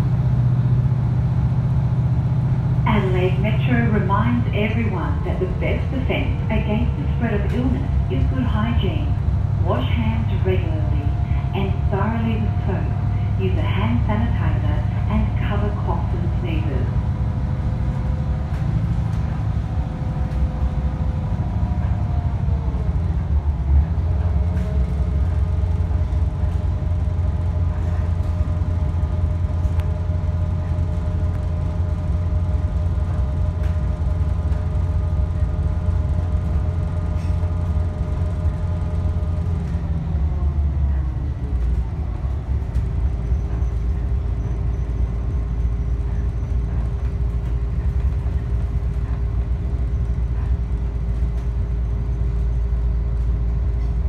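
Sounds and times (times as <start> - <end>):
diesel railcar engine rumble: 0.0 - 54.0.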